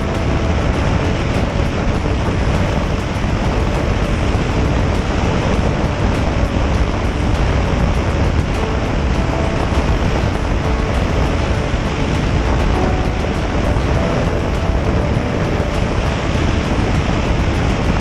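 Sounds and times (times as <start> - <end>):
low road rumble: 0.0 - 18.0
wind rush on microphone: 0.0 - 18.0.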